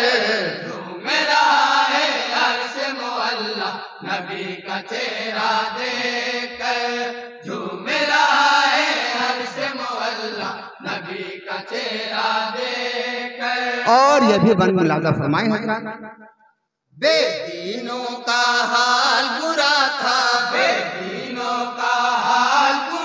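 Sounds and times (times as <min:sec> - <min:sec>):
men chanting in chorus: 0:00.0 - 0:13.9, 0:17.1 - 0:23.0.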